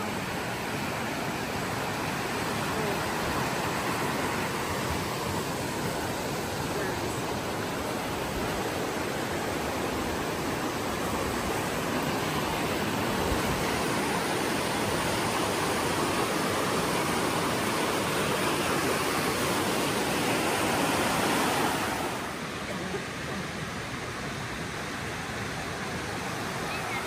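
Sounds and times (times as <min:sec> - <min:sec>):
creek rushing over rapids: 0:00.0 - 0:27.0.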